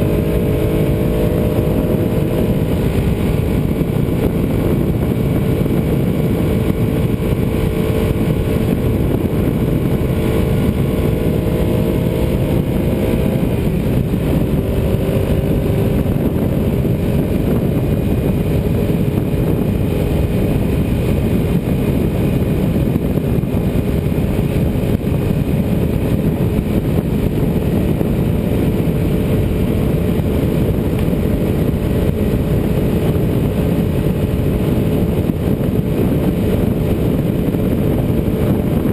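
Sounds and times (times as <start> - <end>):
motorcycle engine at speed: 0.0 - 38.9
wind noise: 0.0 - 38.9.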